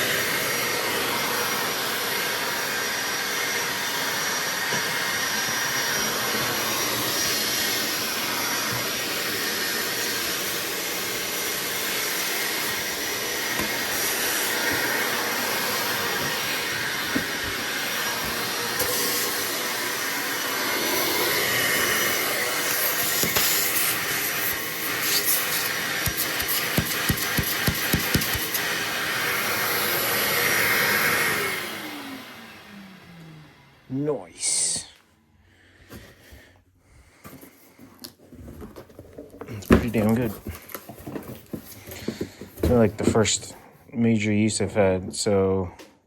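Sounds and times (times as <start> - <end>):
shop vacuum running: 0.0 - 35.0, 38.9 - 43.6.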